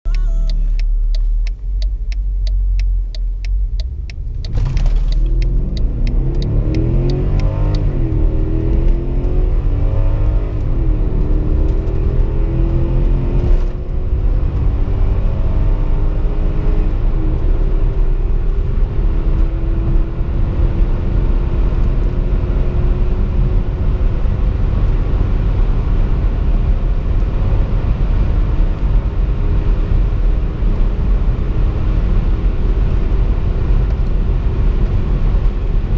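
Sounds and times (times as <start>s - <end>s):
car engine accelerating: 0.0s - 35.9s
road and wind noise: 0.0s - 35.9s.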